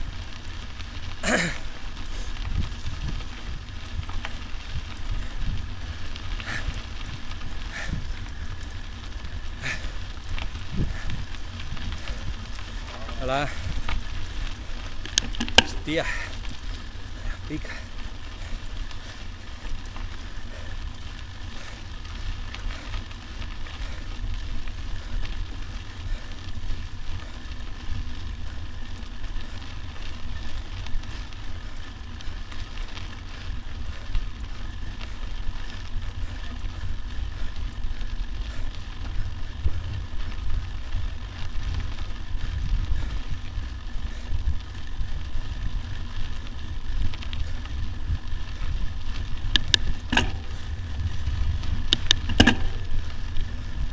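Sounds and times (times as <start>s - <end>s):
tyres crackling on dirt: 0.0s - 53.9s
wind buffeting microphone: 1.8s - 53.9s.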